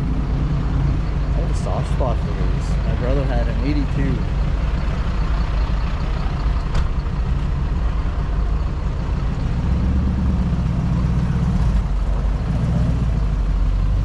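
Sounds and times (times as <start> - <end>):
car engine running low rumble: 0.0 - 14.0.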